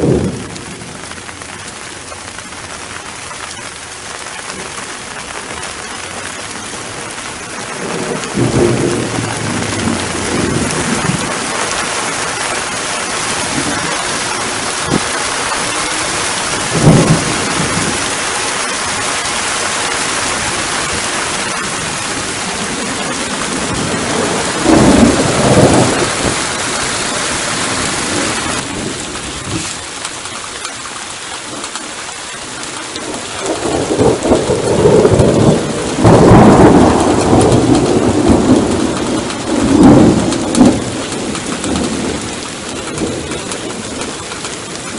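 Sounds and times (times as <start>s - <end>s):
thunder clap: 0.0s - 1.8s, 3.7s - 30.3s, 32.6s - 44.9s
heavy rain: 0.0s - 44.9s
thunder rumbling: 0.0s - 44.9s.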